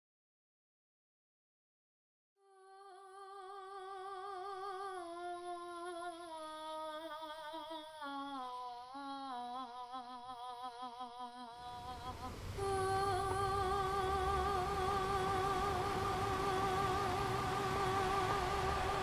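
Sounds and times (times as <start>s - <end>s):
high voice humming melody: 2.4s - 19.0s.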